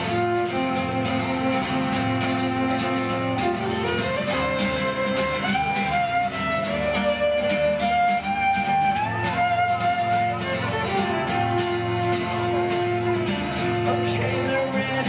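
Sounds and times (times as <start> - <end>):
fiddle melody: 0.0 - 15.0
strummed acoustic guitar: 0.0 - 15.0.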